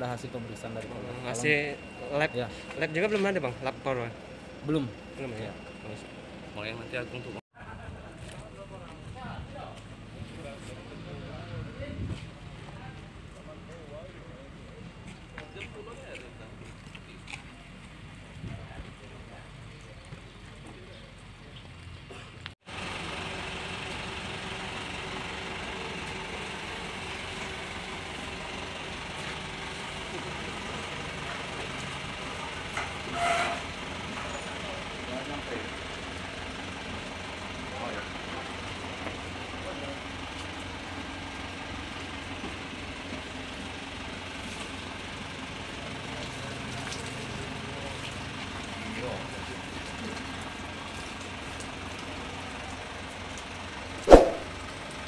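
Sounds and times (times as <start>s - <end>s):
bus engine idling: 0.0s - 55.0s.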